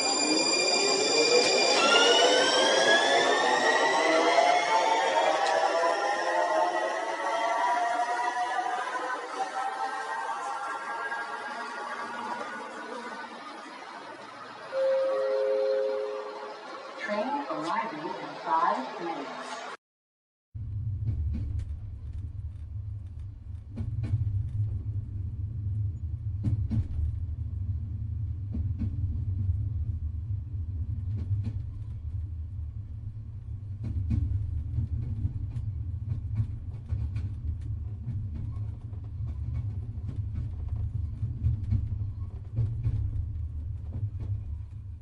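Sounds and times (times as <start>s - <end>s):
train rumbling on rails: 0.0s - 19.8s, 20.6s - 45.0s.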